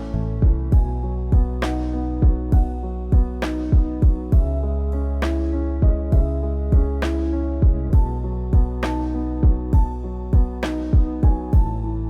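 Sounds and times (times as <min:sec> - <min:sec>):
deep drum beat: 0:00.4 - 0:04.6, 0:05.8 - 0:11.8.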